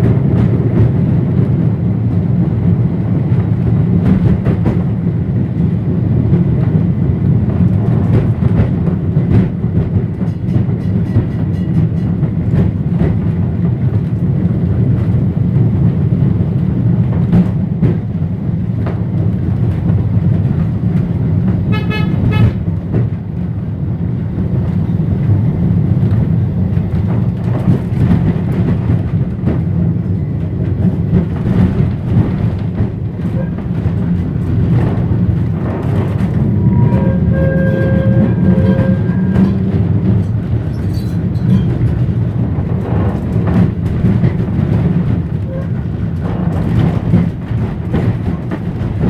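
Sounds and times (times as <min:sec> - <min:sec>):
tram rumbling on track: 0:00.0 - 0:49.0.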